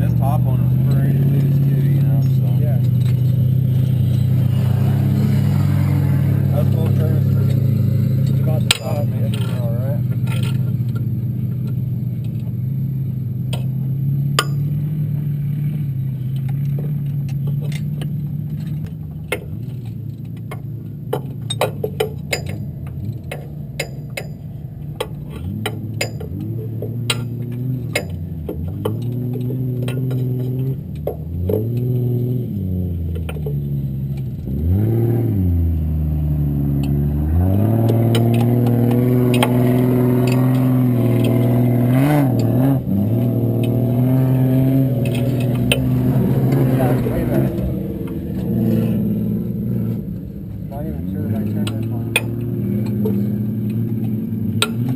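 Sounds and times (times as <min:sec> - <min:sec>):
race car engine running: 0:00.0 - 0:54.9.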